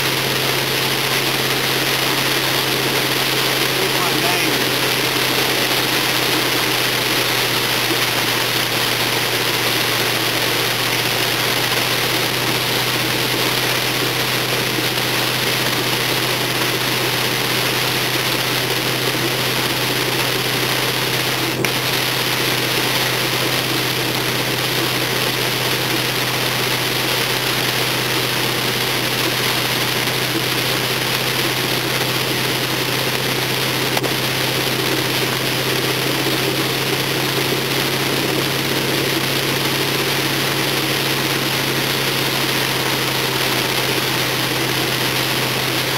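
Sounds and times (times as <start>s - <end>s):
car engine running: 0.0s - 45.9s
rain and water spray hiss: 0.0s - 45.9s.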